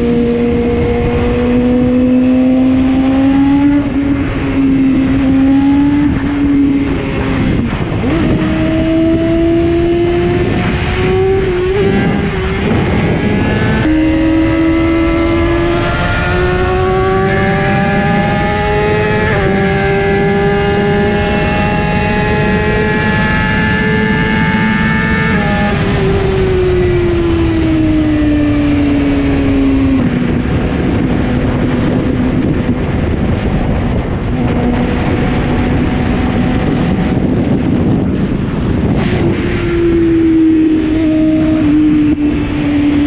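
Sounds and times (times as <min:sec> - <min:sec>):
motorcycle engine accelerating: 0:00.0 - 0:43.0
wind rush on microphone: 0:00.0 - 0:43.0.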